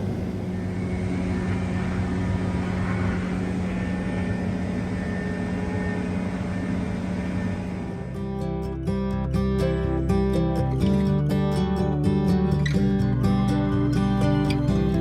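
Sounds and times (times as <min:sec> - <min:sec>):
combine harvester engine running: 0:00.0 - 0:15.0.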